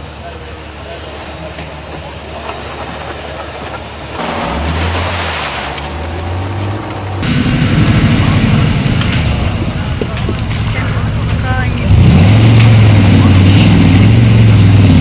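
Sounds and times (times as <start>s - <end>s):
off-road engines under load: 0.0s - 15.0s.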